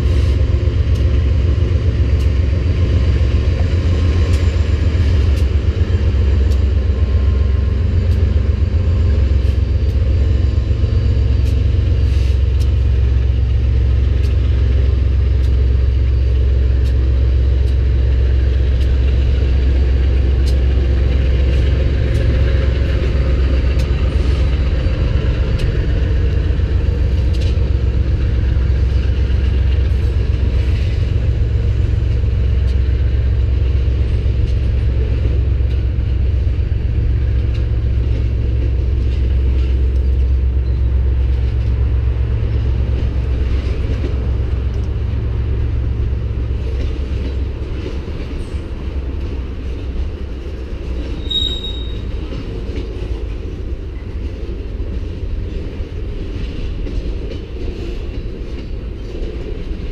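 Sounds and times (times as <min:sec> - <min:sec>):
freight train rumble: 0:00.0 - 0:59.9
sharp clicks of train wheels: 0:00.0 - 0:59.9.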